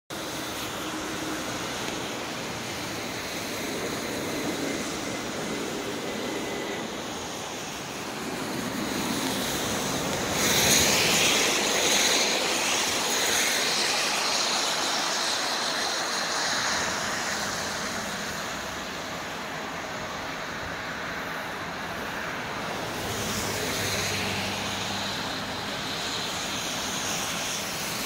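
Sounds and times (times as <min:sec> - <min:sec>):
distant freight train rumbling: 0:00.1 - 0:28.0
passing road traffic: 0:00.1 - 0:28.0.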